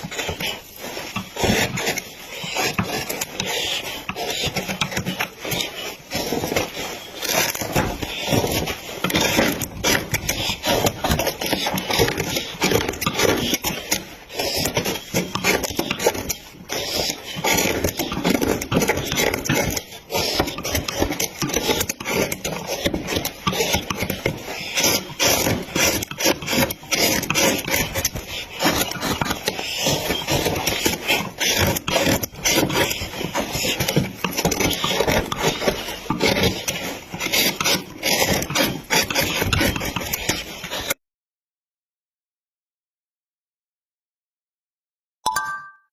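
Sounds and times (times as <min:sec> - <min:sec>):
tool scraping wood: 0:00.0 - 0:41.0.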